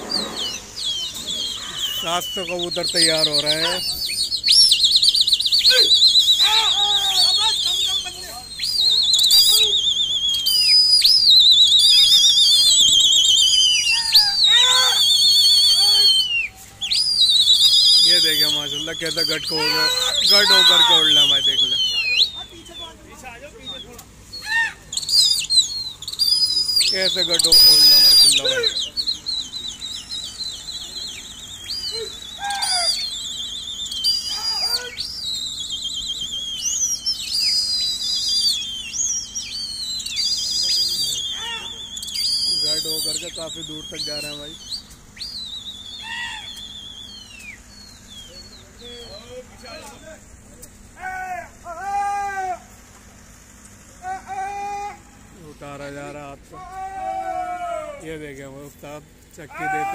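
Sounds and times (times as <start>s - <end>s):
shrill warbling whistles: 0.0s - 52.2s.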